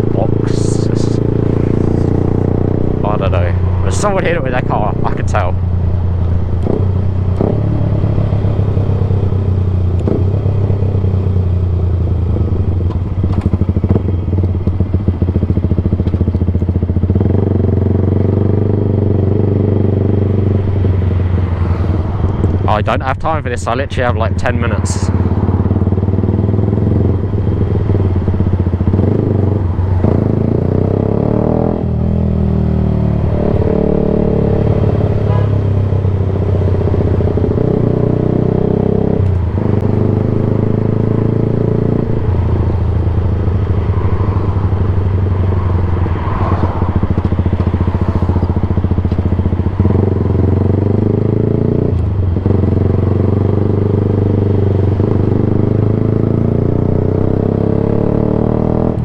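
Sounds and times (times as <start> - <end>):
motorcycle engine revving: 0.0 - 23.4, 24.0 - 59.0.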